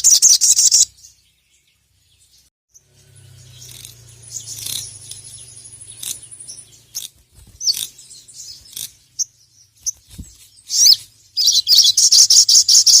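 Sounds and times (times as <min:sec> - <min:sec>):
sunbird singing rapid chirps: 0:00.0 - 0:13.0.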